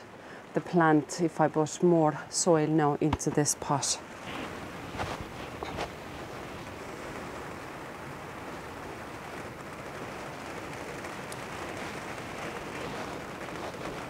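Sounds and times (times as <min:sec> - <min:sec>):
rain and wind on greenhouse roof: 0:00.0 - 0:14.0.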